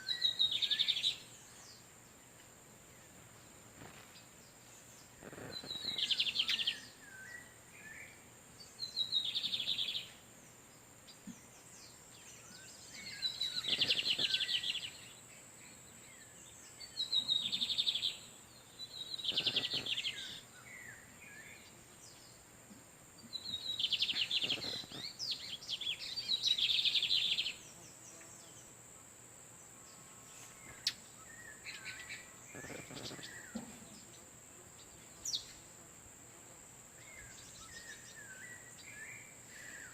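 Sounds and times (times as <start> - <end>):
birds singing buzzy trills: 0.0 - 28.9, 29.6 - 35.9, 36.9 - 39.9.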